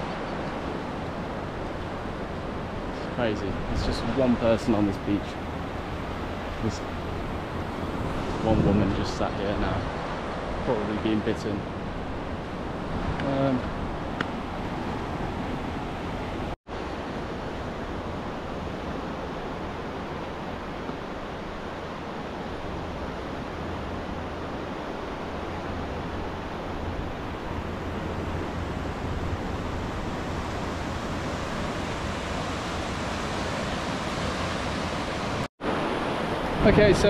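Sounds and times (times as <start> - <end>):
sea surf washing onto beach: 0.0 - 37.0
wind rumbling on microphone: 0.0 - 37.0.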